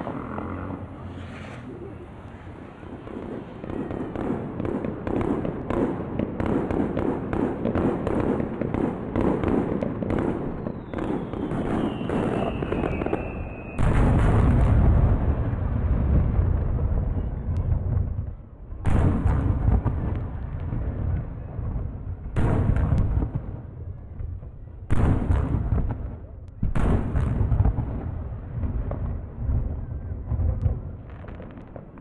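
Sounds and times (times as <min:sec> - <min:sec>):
fireworks crackling pops: 0:00.1 - 0:23.6, 0:24.2 - 0:32.0
firework deep boom: 0:00.3 - 0:32.0.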